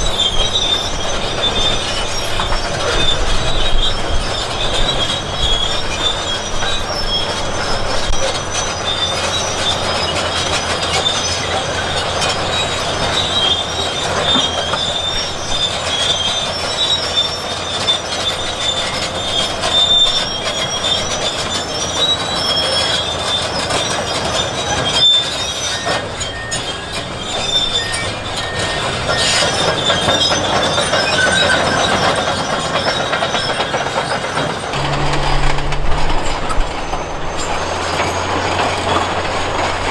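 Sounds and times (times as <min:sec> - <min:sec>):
crawler tracks squealing and clanking: 0:00.0 - 0:39.9
diesel engine running: 0:00.0 - 0:39.9.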